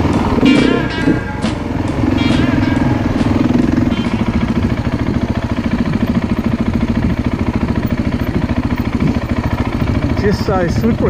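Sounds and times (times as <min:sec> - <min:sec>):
motorcycle engine chugging: 0:00.0 - 0:11.0.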